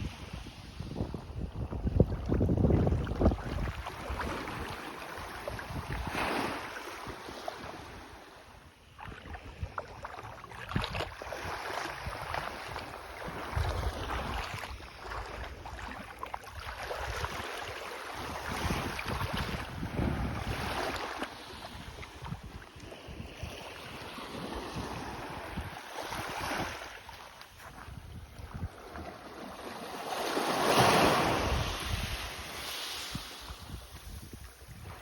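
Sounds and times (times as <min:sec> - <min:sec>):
wind buffeting microphone: 0:00.0 - 0:08.1, 0:08.9 - 0:26.9, 0:27.5 - 0:29.3, 0:30.4 - 0:35.0
sea waves washing on beach: 0:00.0 - 0:35.0.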